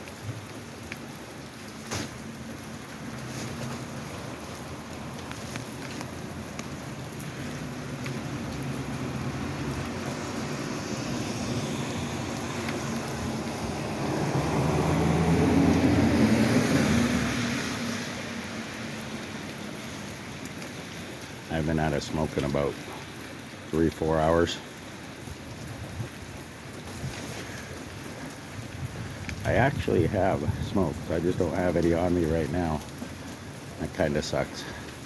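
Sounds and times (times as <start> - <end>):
steady rain falling: 0.0 - 35.0
vehicle driving past on wet road: 0.1 - 35.0.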